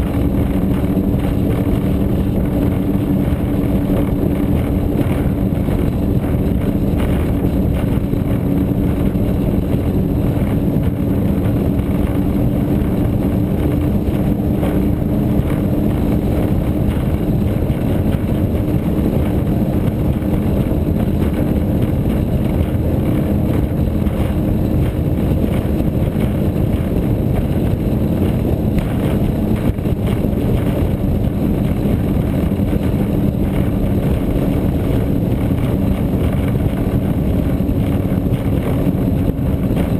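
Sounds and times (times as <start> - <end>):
powerboat engine drone: 0.0 - 39.9
wind on microphone: 0.0 - 39.9.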